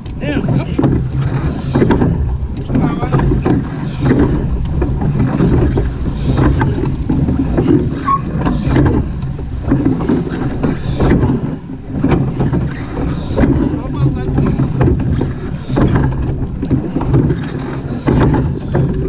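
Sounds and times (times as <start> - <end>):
oars splashing in water: 0.0 - 19.0
wind buffeting microphone: 0.0 - 19.0.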